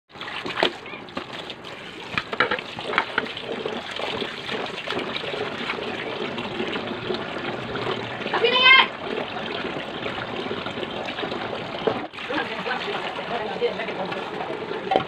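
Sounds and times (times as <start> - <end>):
tap water running into basin: 0.1 - 15.0.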